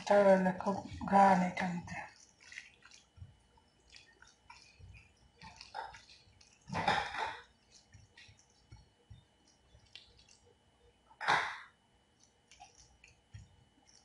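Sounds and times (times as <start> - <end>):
fingers squelching food in bowl: 0.0 - 10.7, 12.1 - 14.0.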